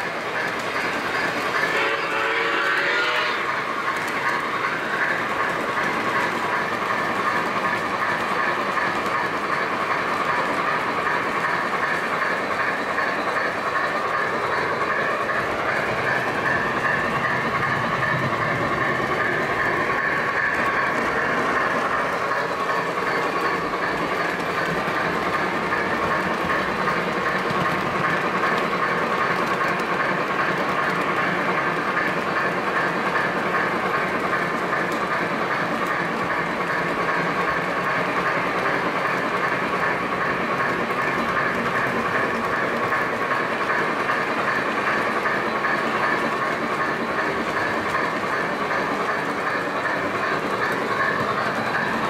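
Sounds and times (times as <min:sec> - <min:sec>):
model train wheels clicking on rails: 0:00.0 - 0:52.0
train motor hum: 0:00.0 - 0:52.0.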